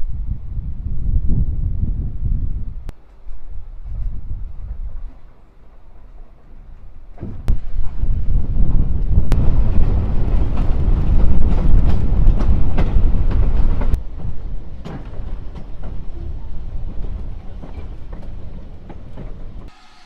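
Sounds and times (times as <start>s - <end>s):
train rumbling along track: 0.0s - 19.8s.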